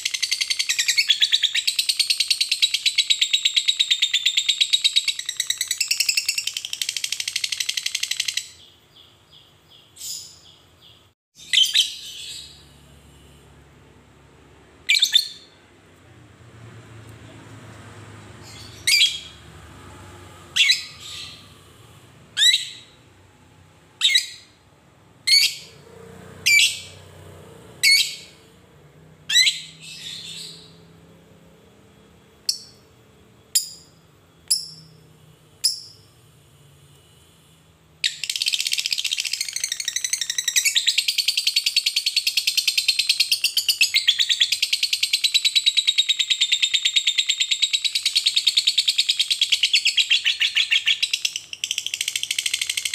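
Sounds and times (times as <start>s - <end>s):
sharp high bird chirps: 0.0s - 13.4s, 14.8s - 15.7s, 18.4s - 19.6s, 20.4s - 25.8s, 26.4s - 27.1s, 27.8s - 31.0s, 32.0s - 36.2s, 38.0s - 52.9s.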